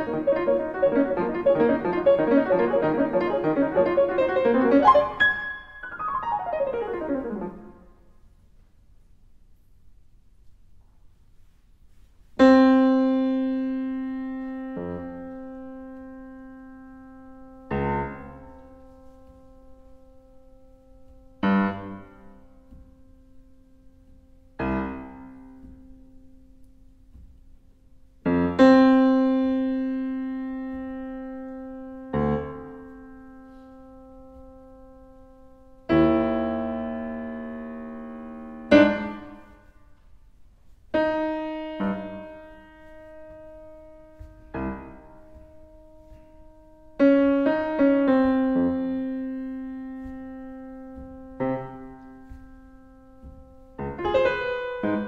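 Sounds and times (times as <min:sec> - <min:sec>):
slow sparse piano notes: 0:00.0 - 0:08.3, 0:12.4 - 0:40.2, 0:40.9 - 0:55.0.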